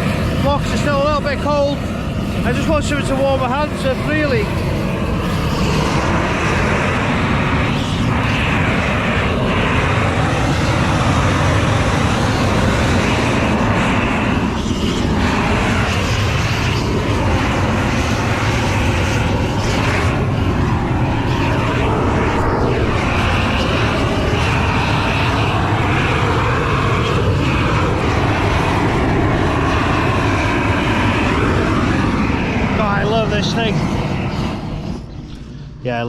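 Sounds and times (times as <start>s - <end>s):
gas blowtorch burning: 0.0s - 36.0s.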